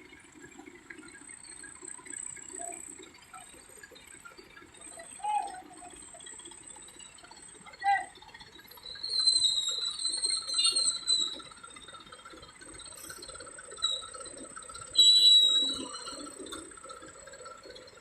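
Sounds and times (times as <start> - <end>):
high-pitched wavering squeal: 0.5 - 18.0.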